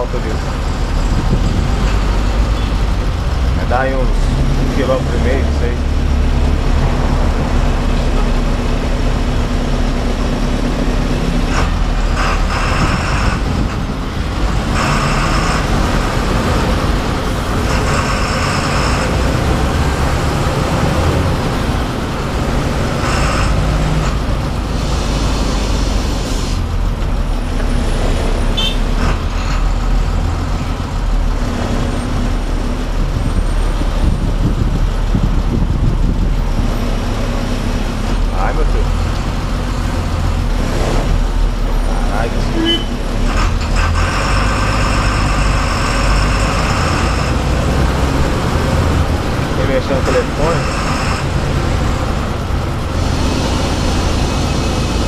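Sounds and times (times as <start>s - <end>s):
bus engine running: 0.0s - 55.0s
road noise: 0.0s - 55.0s.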